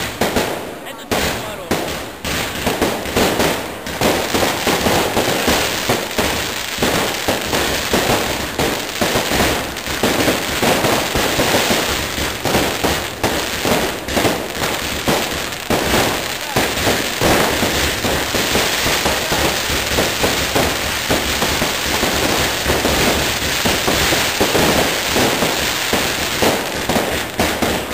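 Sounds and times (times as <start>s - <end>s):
fireworks bursts and bangs: 0.0s - 27.9s
fireworks crackling: 0.0s - 27.9s.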